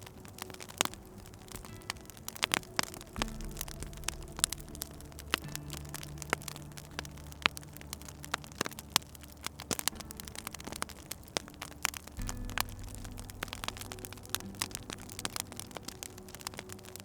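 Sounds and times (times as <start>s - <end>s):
soft music of low held notes: 0.0s - 17.0s
wood fire crackling: 0.0s - 17.0s.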